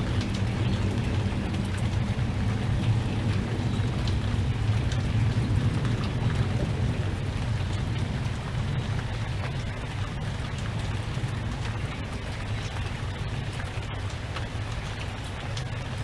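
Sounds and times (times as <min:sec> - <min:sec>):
drops ticking: 0:00.0 - 0:16.0
low wind rumble: 0:00.0 - 0:16.0
steady rain: 0:00.0 - 0:16.0.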